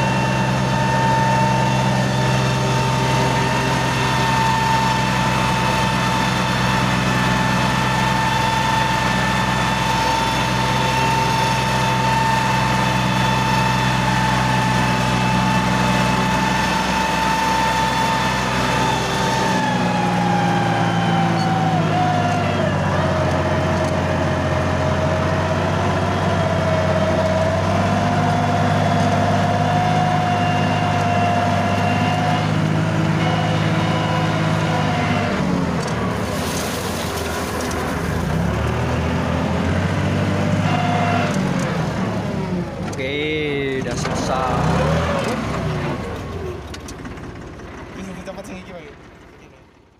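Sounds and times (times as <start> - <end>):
tractor engines running: 0.0 - 49.9.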